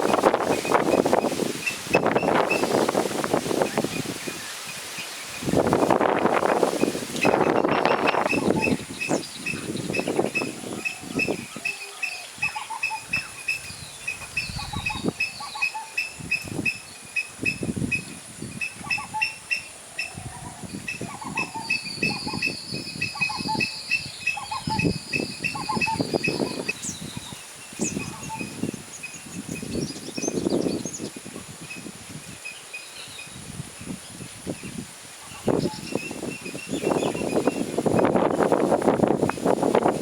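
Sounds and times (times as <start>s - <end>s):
birds chattering and calling: 0.0s - 38.6s
rustling in foliage: 0.0s - 40.0s.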